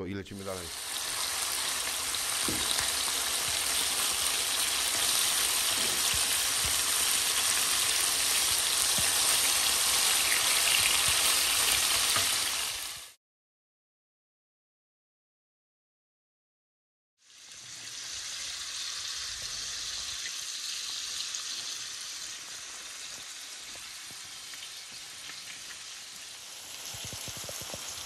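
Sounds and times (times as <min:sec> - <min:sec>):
pork sizzling in a frying pan: 0:00.6 - 0:13.2, 0:17.2 - 0:28.0.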